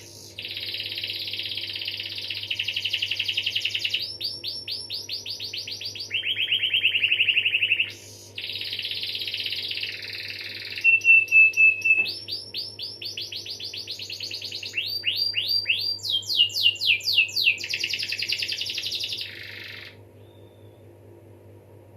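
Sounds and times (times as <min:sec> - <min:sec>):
canary singing trills: 0:00.0 - 0:20.9
low steady hum: 0:00.0 - 0:21.9.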